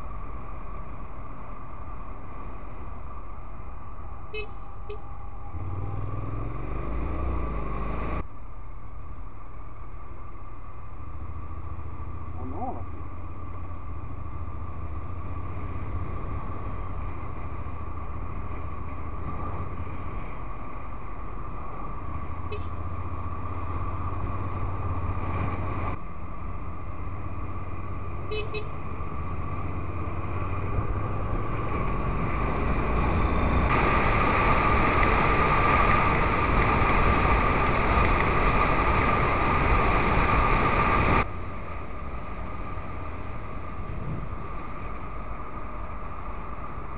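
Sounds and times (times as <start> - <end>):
road and wind noise: 0.0 - 46.9.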